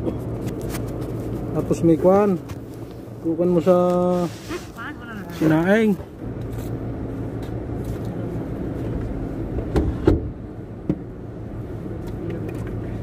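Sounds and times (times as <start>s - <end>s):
engine and road hum: 0.0s - 13.0s.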